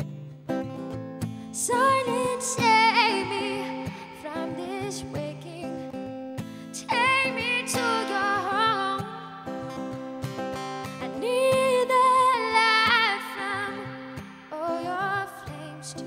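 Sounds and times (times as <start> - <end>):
acoustic guitar: 0.0 - 16.0
woman singing: 1.3 - 16.0.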